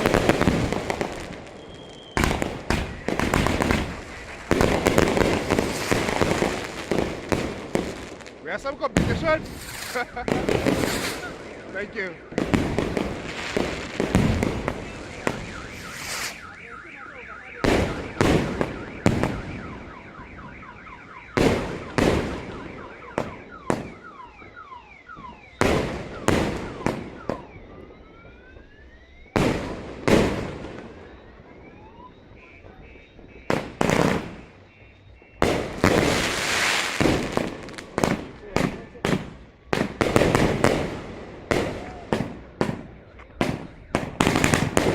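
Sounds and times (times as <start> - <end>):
fast warbling siren-like firework: 0.0 - 44.9
fireworks bangs: 0.0 - 44.9
fireworks whistles: 0.0 - 44.9.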